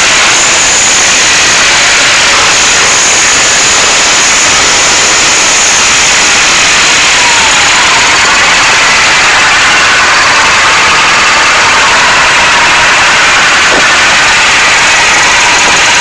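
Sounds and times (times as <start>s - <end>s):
diesel tractor engine clattering: 0.0s - 16.0s.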